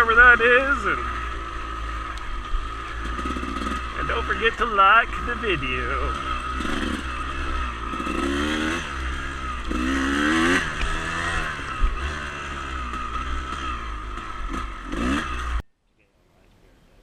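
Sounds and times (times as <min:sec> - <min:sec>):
dirt bike engine revving: 0:00.0 - 0:15.7.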